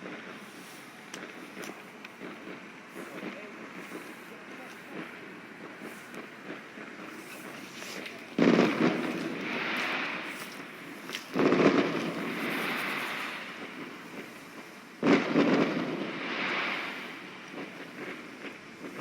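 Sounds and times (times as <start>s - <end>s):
fireworks exploding: 0.0s - 19.0s.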